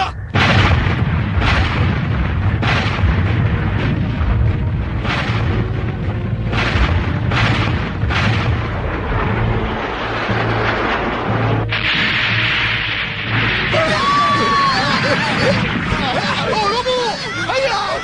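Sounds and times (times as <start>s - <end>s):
cannon fire and explosions: 0.0s - 17.0s
continuous heavy rumble: 0.0s - 18.0s.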